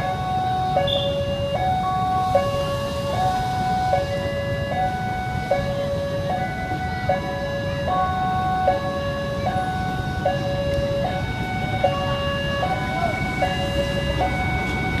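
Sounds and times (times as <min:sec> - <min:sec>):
two-tone warning siren: 0:00.0 - 0:15.0.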